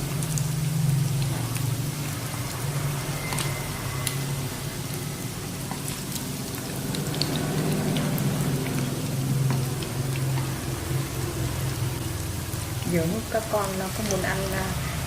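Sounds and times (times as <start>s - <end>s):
food deep-frying in oil: 0.0s - 15.0s
low steady hum: 0.0s - 15.0s.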